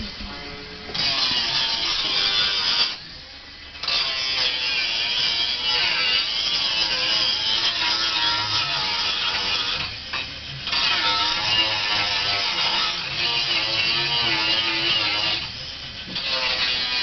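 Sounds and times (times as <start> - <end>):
high-pitched motor running: 0.0 - 3.0, 3.7 - 17.0.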